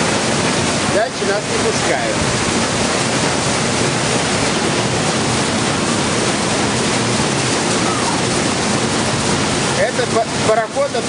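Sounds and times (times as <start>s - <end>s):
paddlewheel churning water: 0.0s - 11.0s.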